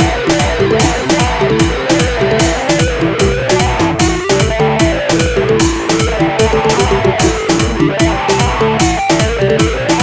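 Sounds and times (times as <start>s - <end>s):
heavy drum beat: 0.0s - 10.0s
live dance band instrumental: 0.0s - 10.0s.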